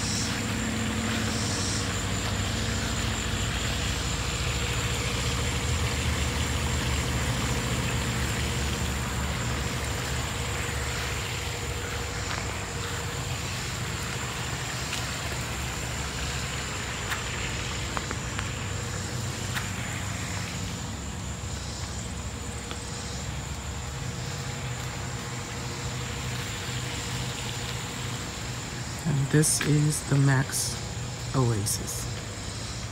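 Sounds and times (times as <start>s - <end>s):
low motor-like rumble: 0.0s - 32.9s.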